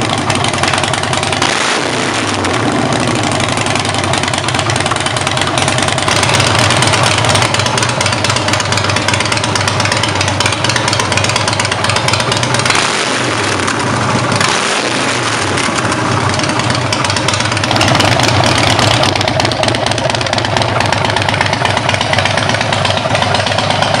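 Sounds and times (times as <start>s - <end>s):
loud motorcycle engine idling: 0.0s - 24.0s.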